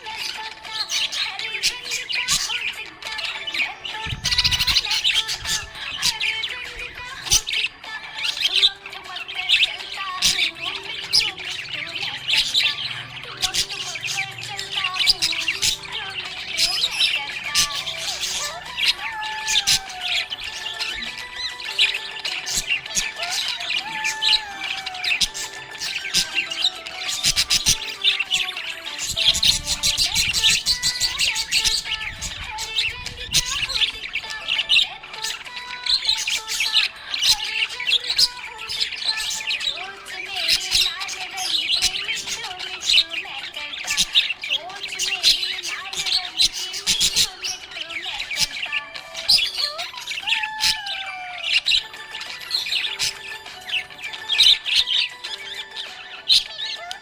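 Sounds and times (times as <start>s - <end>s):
parrots chirping and squawking: 0.0s - 57.0s.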